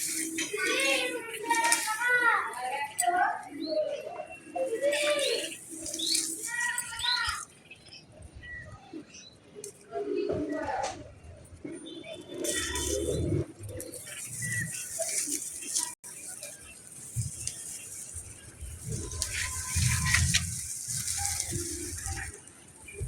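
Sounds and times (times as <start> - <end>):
birds calling: 0.0 - 10.6, 11.6 - 23.0
background noise: 0.0 - 23.0.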